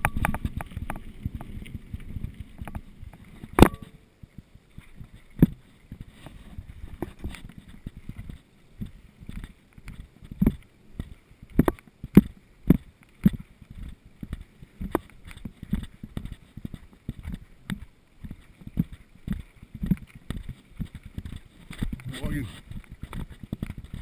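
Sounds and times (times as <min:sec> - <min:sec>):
mountain bike rattling on trail: 0:00.0 - 0:24.0.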